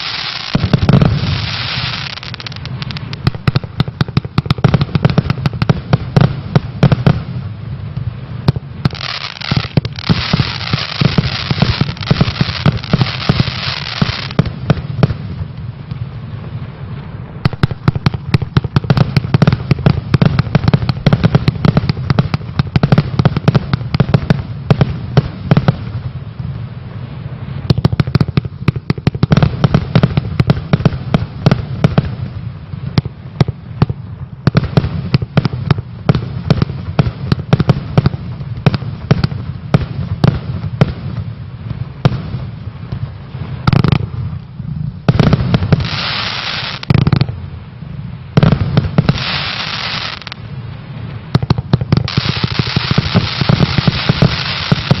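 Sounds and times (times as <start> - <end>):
fireworks barrage: 0.0 - 55.0
fireworks crackling hiss: 0.0 - 55.0.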